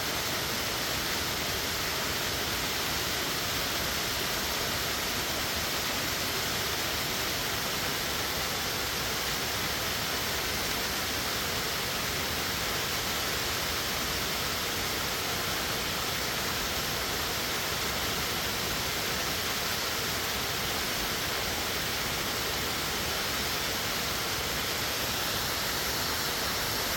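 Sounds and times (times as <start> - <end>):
waterfall roaring: 0.0 - 26.9.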